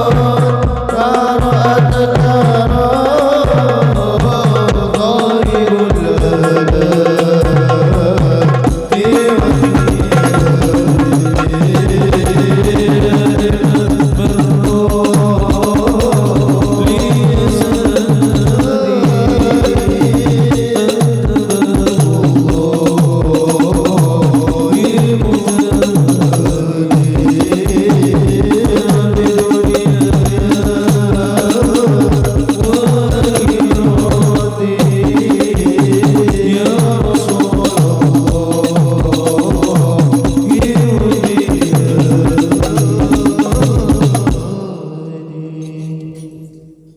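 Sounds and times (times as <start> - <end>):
hand drums fast rhythm: 0.0 - 44.6.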